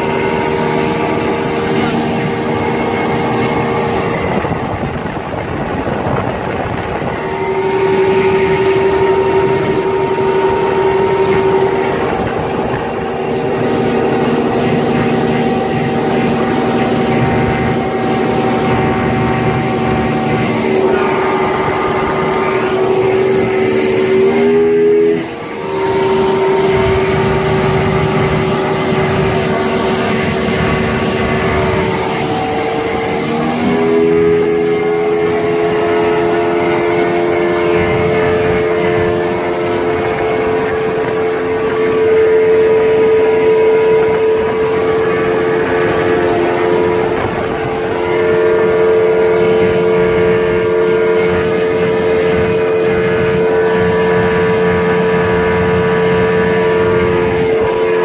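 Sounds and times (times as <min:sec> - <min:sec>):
outboard engine running: 0:00.0 - 0:58.0
rush of wind and water: 0:00.0 - 0:58.0.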